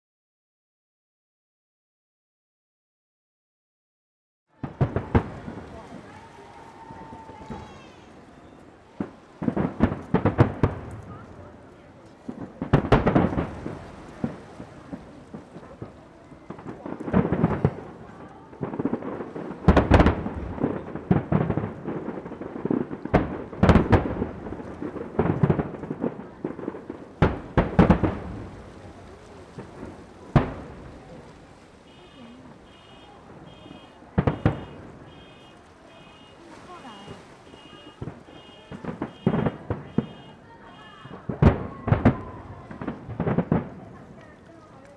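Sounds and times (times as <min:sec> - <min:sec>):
fireworks booming: 0:04.6 - 0:44.3
fireworks crackling: 0:04.6 - 0:44.9.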